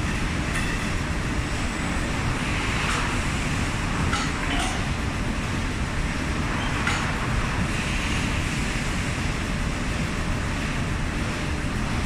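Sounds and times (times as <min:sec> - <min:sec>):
roller conveyor rumbling: 0:00.0 - 0:12.0.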